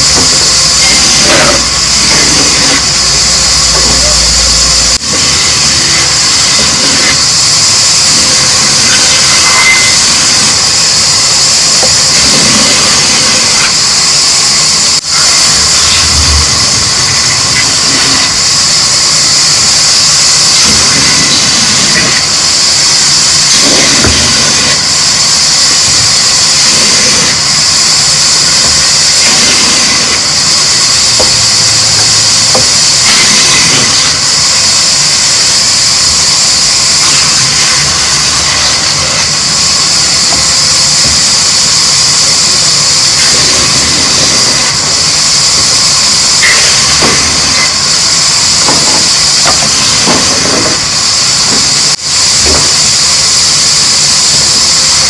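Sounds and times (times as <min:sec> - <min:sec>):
constant high hiss: 0:00.0 - 0:55.0
machine running loudly: 0:00.0 - 0:55.0.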